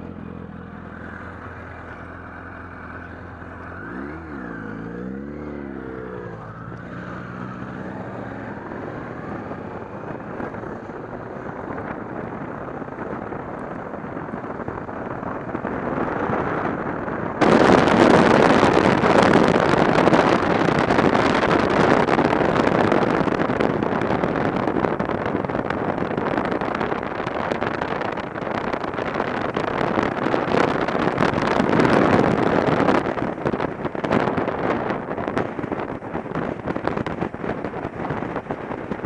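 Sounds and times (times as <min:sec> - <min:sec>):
wind roaring over microphone: 0:00.0 - 0:39.0.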